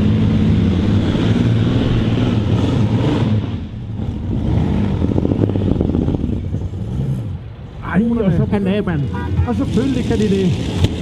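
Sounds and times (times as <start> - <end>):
tractor engines at full throttle: 0.0 - 11.0.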